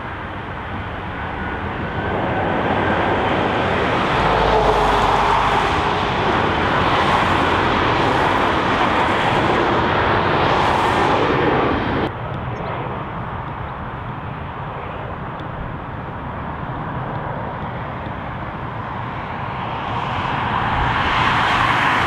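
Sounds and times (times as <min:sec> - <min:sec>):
jet airliner engines roaring: 0:00.0 - 0:22.0.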